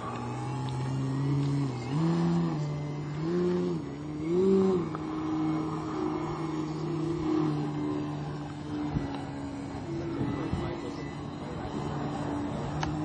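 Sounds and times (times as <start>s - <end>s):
model plane motor and propeller: 0.0s - 13.0s.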